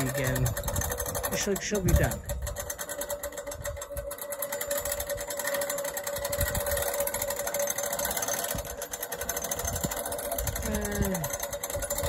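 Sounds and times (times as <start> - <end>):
mechanical hum: 0.0 - 12.0
ratchet winch clicking: 0.0 - 12.0.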